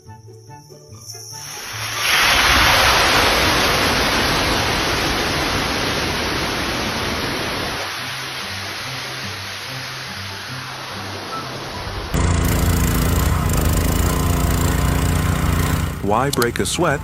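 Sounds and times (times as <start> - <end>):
loud rushing hiss: 1.4 - 17.0.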